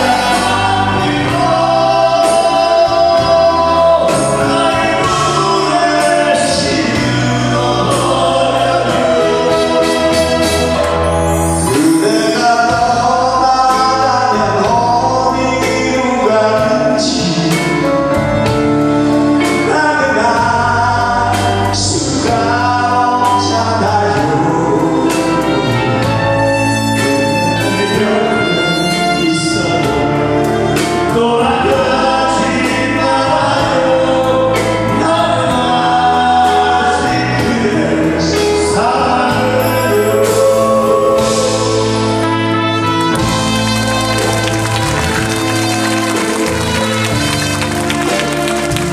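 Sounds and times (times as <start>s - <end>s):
two men singing: 0.0s - 10.9s, 11.6s - 18.3s, 19.5s - 42.5s
live band playing: 0.0s - 48.9s.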